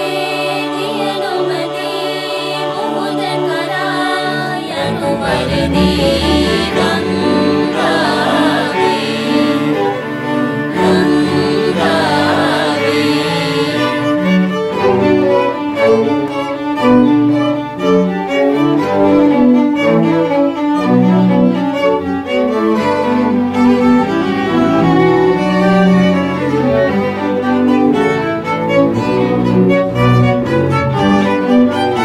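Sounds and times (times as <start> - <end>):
string ensemble playing bowed: 0.0 - 32.0.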